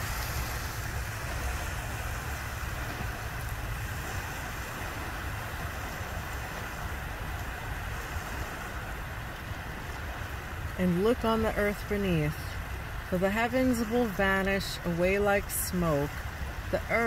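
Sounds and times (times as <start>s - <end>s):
rippling water: 0.0s - 17.0s
wind buffeting microphone: 0.0s - 17.0s.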